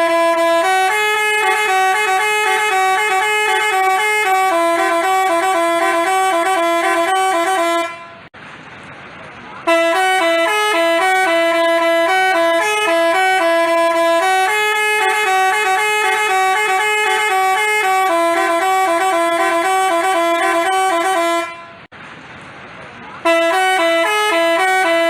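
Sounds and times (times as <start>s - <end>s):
musical bus horn playing tune: 0.0s - 8.3s, 9.6s - 21.9s, 23.2s - 25.0s.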